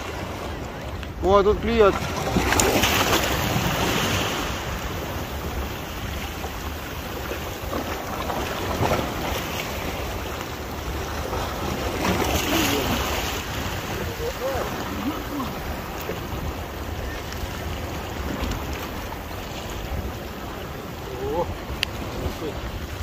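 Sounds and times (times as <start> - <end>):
waves splashing against stone wall: 0.0 - 23.0.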